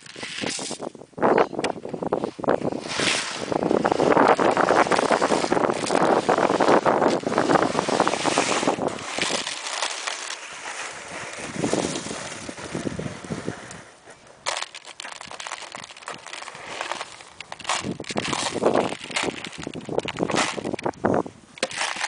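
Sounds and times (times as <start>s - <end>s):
gravel crunching and rattling: 0.0s - 22.0s
sharp clatter of gravel: 0.0s - 22.0s
wind on microphone: 0.0s - 22.0s.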